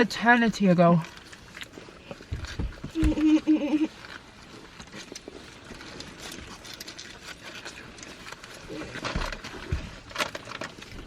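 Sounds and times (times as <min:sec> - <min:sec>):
faint clicks and rustles: 0:00.0 - 0:11.0.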